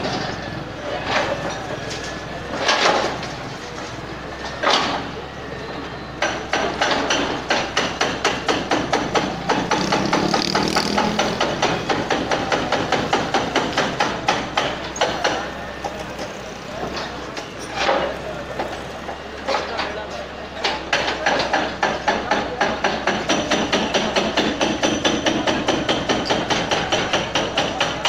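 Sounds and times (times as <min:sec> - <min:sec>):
demolition hammer pounding masonry: 0:00.0 - 0:05.4, 0:06.1 - 0:28.0
excavator diesel engine running: 0:00.0 - 0:28.0.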